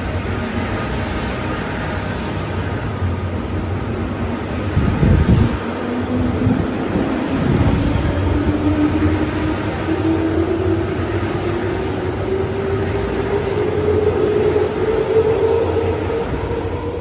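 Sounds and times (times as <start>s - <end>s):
train cars rumbling: 0.0s - 17.0s.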